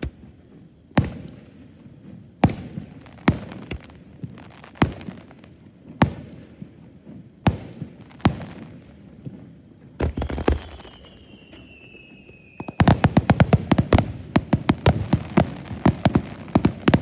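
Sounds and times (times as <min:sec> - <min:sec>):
crackling firework bangs: 0:00.0 - 0:17.0
fireworks bangs echoing: 0:00.0 - 0:17.0.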